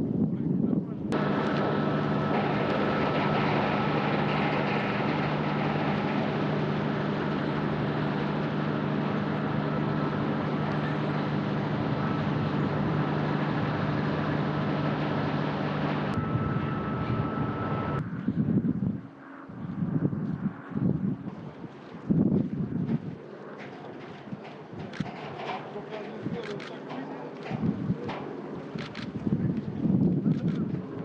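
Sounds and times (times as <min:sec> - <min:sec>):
constant high whine: 0:00.0 - 0:31.0
loud mechanical rumble: 0:00.0 - 0:31.0.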